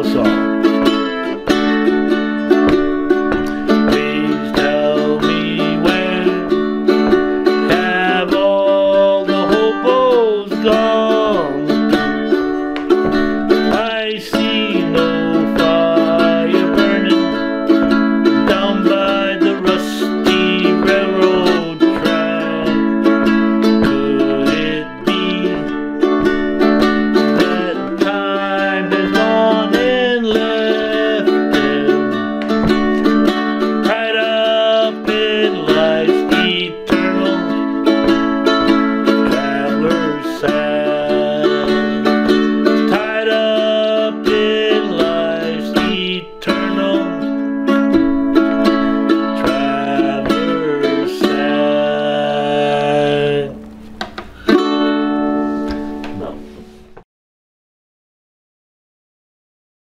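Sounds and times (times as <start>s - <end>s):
person singing: 0.0s - 53.7s
song on plucked strings: 0.0s - 57.0s.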